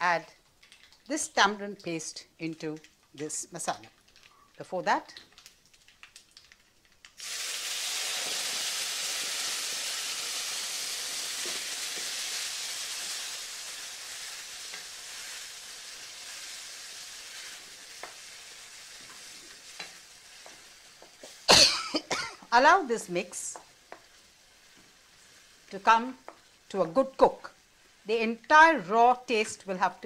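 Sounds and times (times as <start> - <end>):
paste frying sizzle: 0.4 - 30.0.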